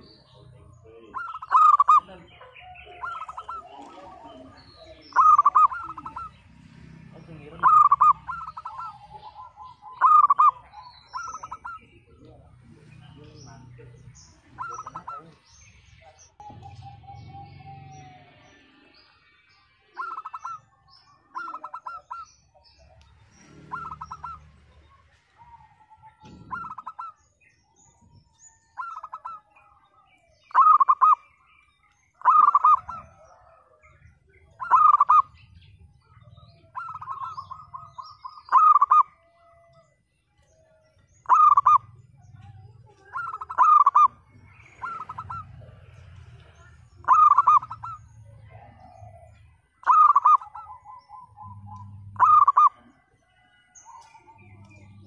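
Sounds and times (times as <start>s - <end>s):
dove cooing: 0.0s - 6.5s, 7.4s - 12.4s, 13.8s - 15.5s, 16.4s - 18.4s, 19.9s - 20.6s, 21.3s - 27.2s, 28.5s - 29.6s, 30.4s - 31.2s, 32.2s - 55.0s.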